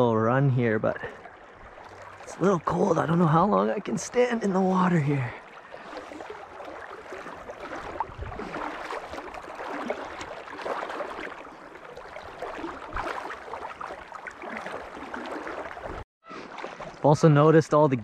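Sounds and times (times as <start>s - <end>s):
river water washing and splashing: 1.1s - 17.6s.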